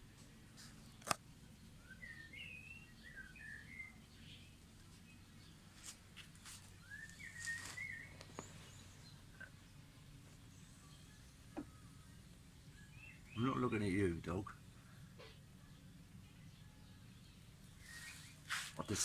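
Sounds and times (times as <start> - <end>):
bird chirping: 0.8 - 5.9, 6.7 - 19.0.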